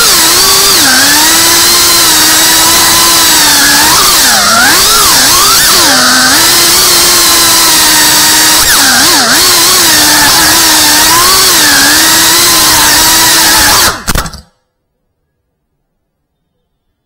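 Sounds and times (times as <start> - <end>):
drone propellers whining: 0.0 - 14.4.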